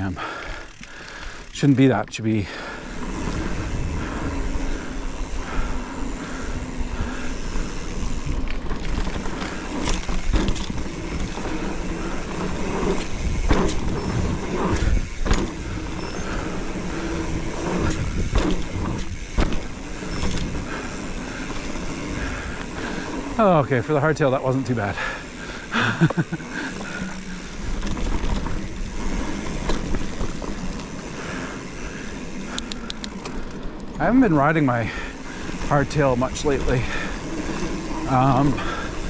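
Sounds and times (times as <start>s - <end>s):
bike frame and chain rattling: 0.0s - 39.0s
tyres rumbling on dirt: 0.0s - 39.0s.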